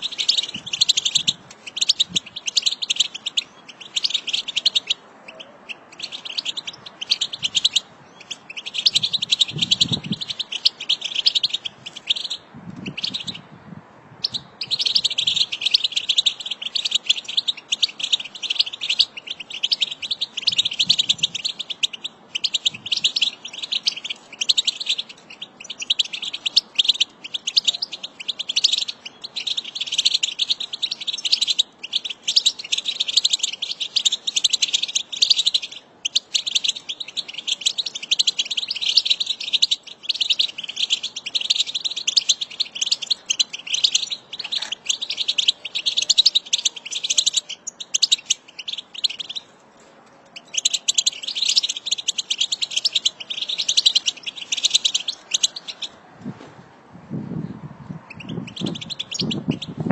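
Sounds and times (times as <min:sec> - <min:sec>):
goldfinches twittering: 0:00.0 - 0:13.4, 0:14.2 - 0:49.5, 0:50.4 - 0:56.0, 0:58.1 - 0:59.8.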